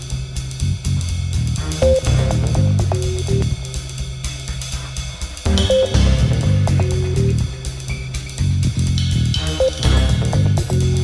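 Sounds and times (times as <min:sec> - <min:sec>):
guitar bass and drum music: 0:00.0 - 0:11.0.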